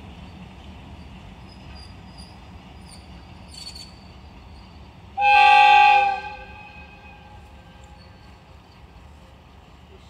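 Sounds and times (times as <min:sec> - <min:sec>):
diesel locomotive rumble: 0:00.0 - 0:10.0.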